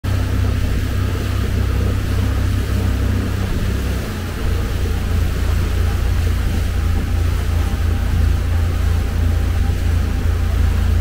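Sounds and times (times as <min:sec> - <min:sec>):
motorboat engine rumble: 0:00.0 - 0:11.0
rushing air and water: 0:00.0 - 0:11.0.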